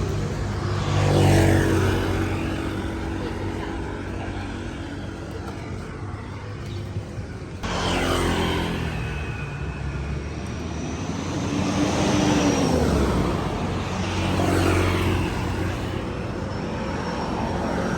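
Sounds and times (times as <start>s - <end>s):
steady traffic: 0.0s - 17.9s
vehicles passing on road: 0.0s - 17.9s.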